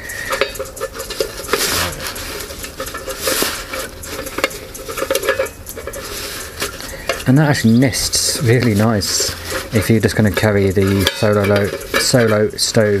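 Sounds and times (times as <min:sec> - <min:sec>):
metal clicks and clinks: 0:00.0 - 0:13.0.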